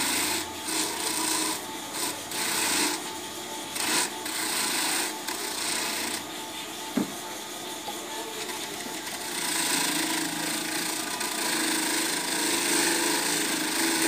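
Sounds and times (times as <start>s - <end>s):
electric grater rasping corn: 0.0s - 14.0s.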